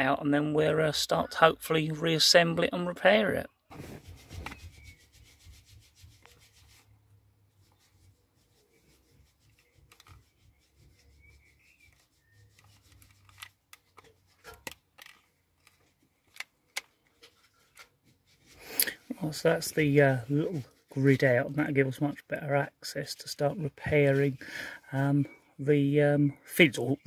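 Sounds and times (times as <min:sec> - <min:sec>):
plastic rubbing and scraping: 0:03.2 - 0:25.4.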